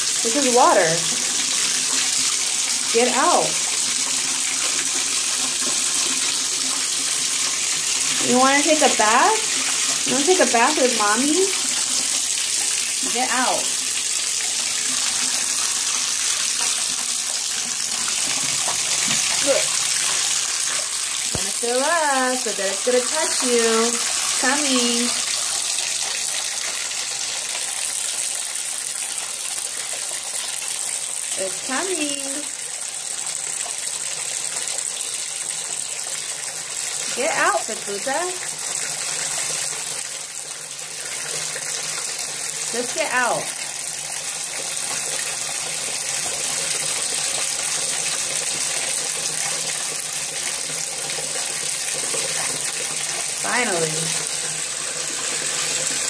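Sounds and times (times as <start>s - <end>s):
tap water filling a bathtub: 0.0s - 56.0s.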